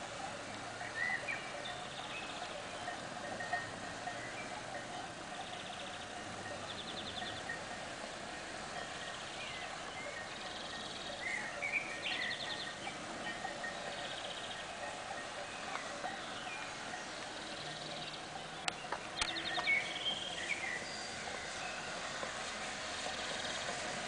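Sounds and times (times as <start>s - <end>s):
bird chirps: 0.8s - 4.8s, 5.4s - 8.2s, 8.8s - 23.9s.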